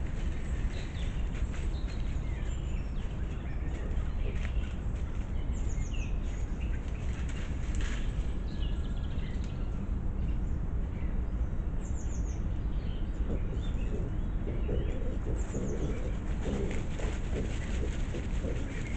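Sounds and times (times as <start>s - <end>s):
animals rustling through dry leaves: 0.0s - 9.9s, 13.1s - 18.9s
songbirds chirping: 0.0s - 18.9s
steady low rumble: 0.0s - 18.9s.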